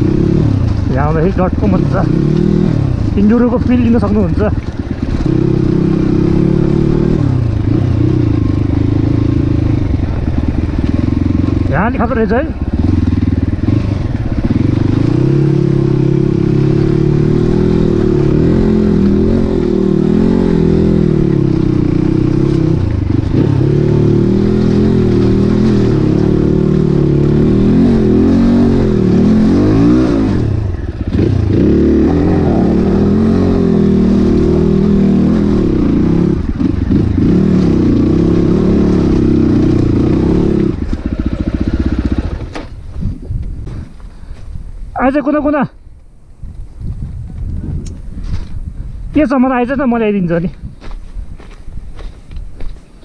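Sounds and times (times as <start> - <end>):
dirt bike engine revving: 0.0 - 42.8.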